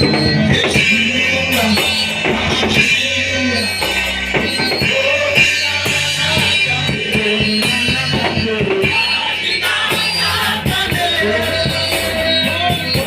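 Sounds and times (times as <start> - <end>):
drum kit: 0.0 - 13.0
guitar: 0.0 - 13.0
worship band music: 0.0 - 13.0.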